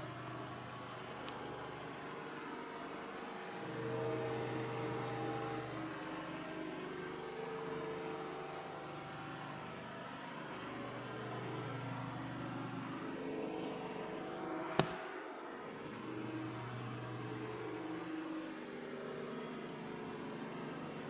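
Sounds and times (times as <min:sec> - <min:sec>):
analyzer motor and pump hum: 0:00.0 - 0:21.0.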